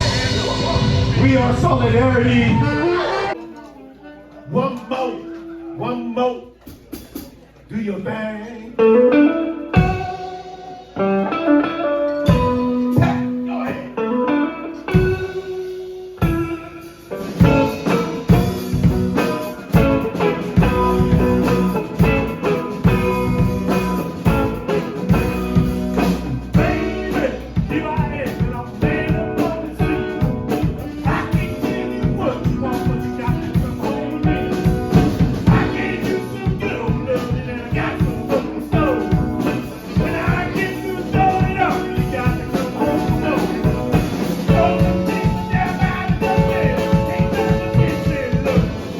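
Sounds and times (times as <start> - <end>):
drum kit beat: 0.0 - 3.4, 6.6 - 7.6, 9.6 - 11.4, 12.2 - 14.0, 14.8 - 48.9
guitar: 0.0 - 48.9.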